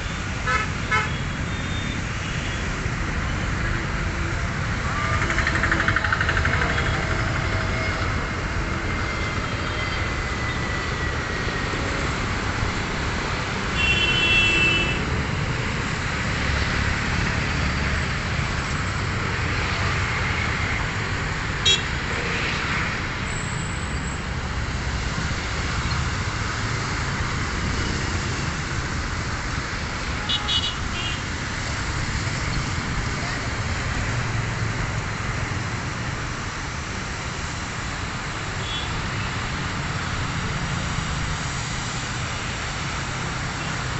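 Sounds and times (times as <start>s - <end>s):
road traffic: 0.0s - 43.9s.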